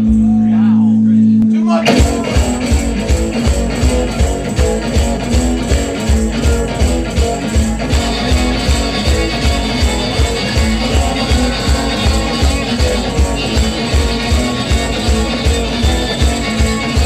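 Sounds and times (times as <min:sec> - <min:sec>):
electric guitars strummed: 0:00.0 - 0:17.0
drum beat: 0:01.7 - 0:17.0.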